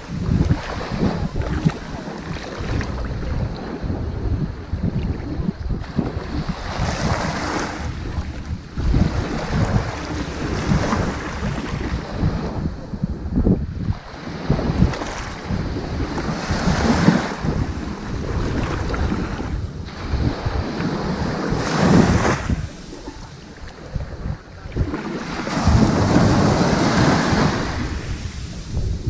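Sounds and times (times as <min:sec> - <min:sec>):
ocean waves breaking on beach: 0:00.0 - 0:29.0
wind buffeting microphone: 0:00.0 - 0:29.0.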